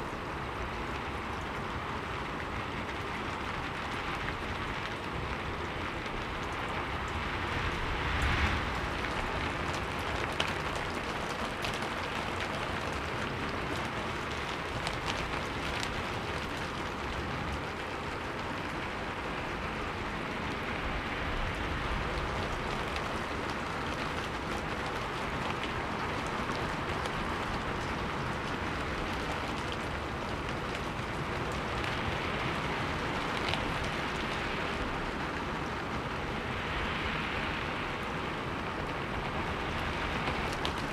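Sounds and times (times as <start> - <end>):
raindrop ticks: 0.0 - 40.9
steady rainfall: 0.0 - 40.9.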